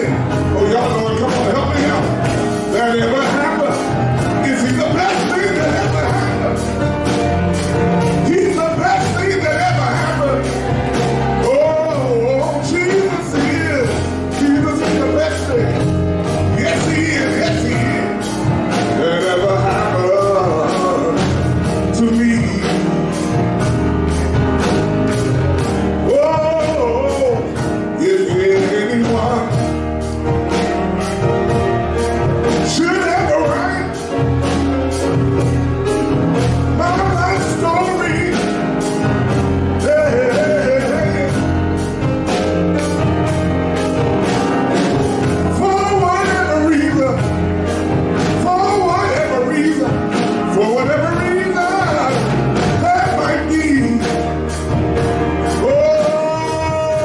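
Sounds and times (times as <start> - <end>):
man singing gospel song: 0.0 - 23.8, 25.1 - 30.0, 32.2 - 34.4, 36.4 - 43.4, 44.8 - 57.0
deep bass notes: 0.0 - 57.0
grand piano: 0.0 - 57.0
steady beat: 0.0 - 57.0.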